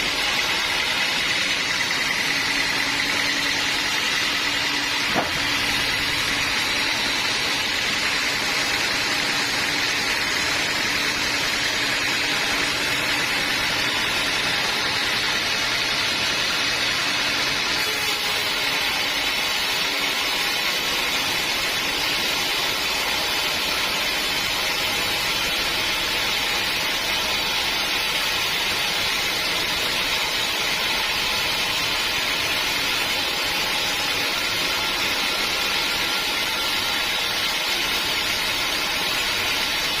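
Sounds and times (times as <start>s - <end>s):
sawmill machine drone: 0.0s - 40.0s.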